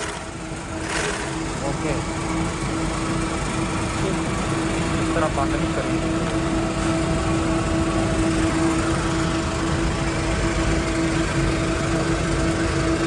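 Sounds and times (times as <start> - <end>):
factory machinery drone: 0.0 - 13.0
steady hum tone: 0.0 - 13.0.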